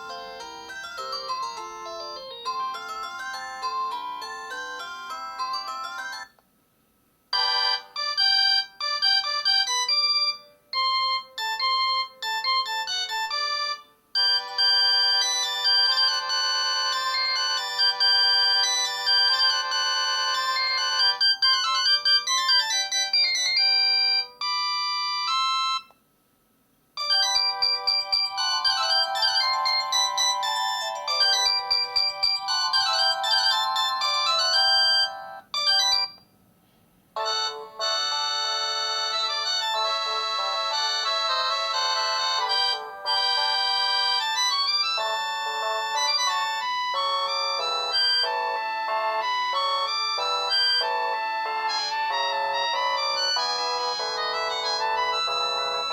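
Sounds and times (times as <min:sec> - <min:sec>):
phone ringtone melodies: 0:00.0 - 0:06.4, 0:07.4 - 0:25.9, 0:27.0 - 0:36.2, 0:37.2 - 0:55.9.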